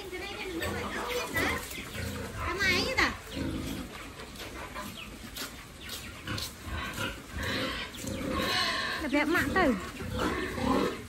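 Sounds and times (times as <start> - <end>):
pigs chomping and snuffling: 0.0 - 11.0.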